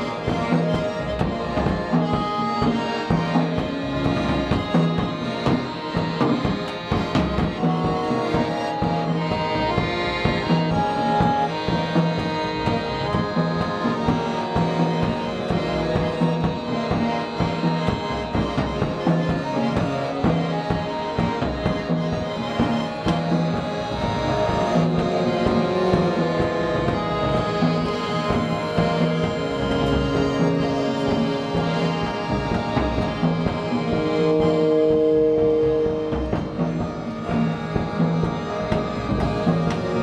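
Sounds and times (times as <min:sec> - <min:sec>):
drum kit steady beat: 0:00.0 - 0:40.0.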